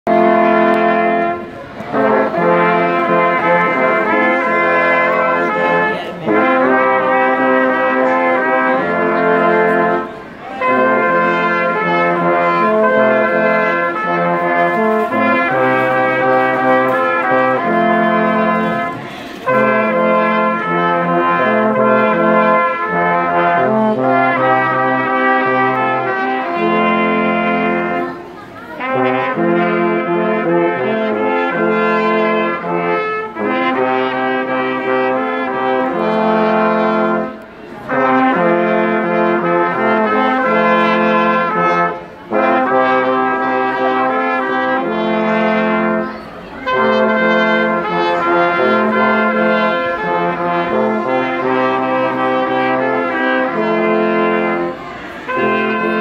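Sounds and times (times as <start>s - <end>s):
brass ensemble playing held chords: 0.0s - 56.0s.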